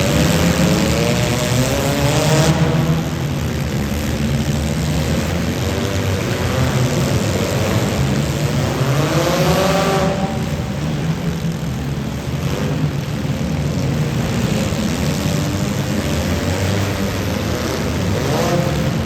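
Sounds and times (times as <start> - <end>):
car engines running hard: 0.0 - 19.0
engine revving: 0.0 - 19.0.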